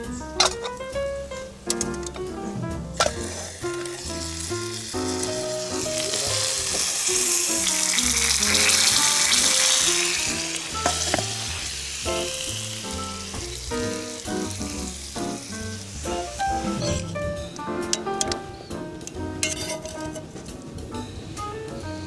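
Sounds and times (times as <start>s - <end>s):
background music: 0.0s - 22.0s
bananas sizzling in a pan: 0.0s - 22.0s.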